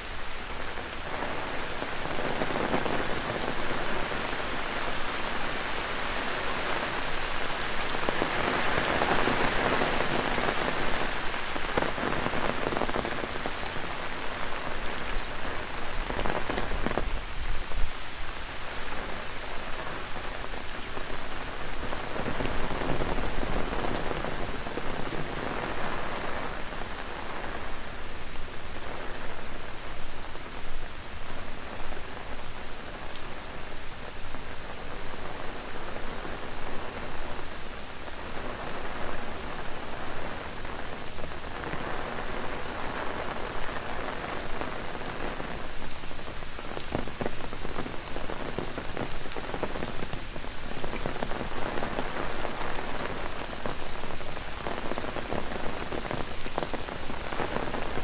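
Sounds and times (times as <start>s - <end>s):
cicada chorus: 0.0s - 58.0s
heavy rain on an umbrella: 0.0s - 58.0s.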